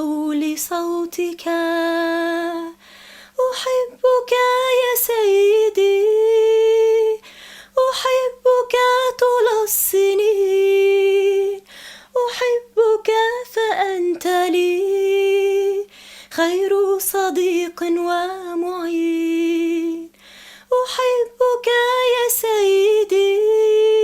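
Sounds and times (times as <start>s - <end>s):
woman singing a hymn: 0.0s - 24.0s.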